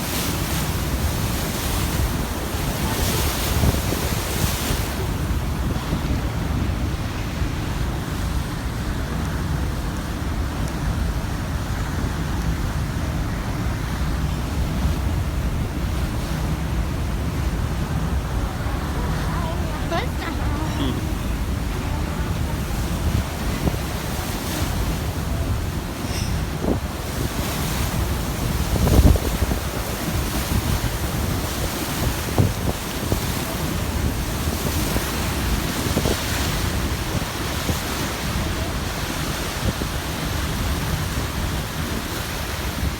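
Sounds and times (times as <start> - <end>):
water washing around boat: 0.0 - 42.9
wind buffeting microphone: 0.0 - 42.9.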